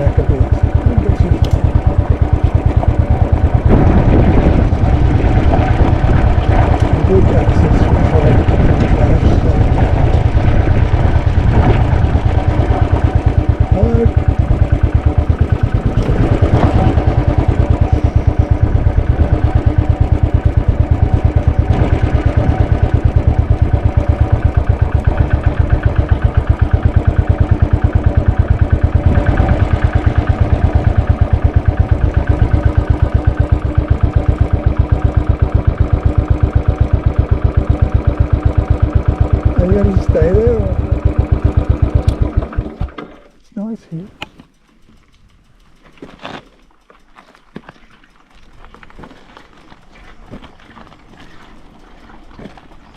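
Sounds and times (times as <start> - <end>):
motorcycle engine idling: 0.0 - 52.9.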